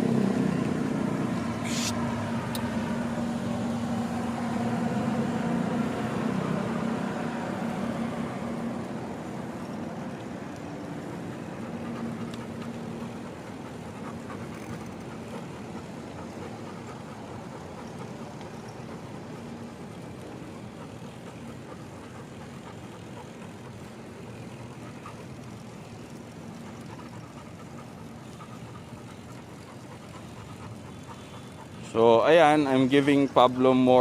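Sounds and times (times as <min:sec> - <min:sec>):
vehicle engine humming: 0:00.0 - 0:33.8
traffic and road noise: 0:00.0 - 0:34.0.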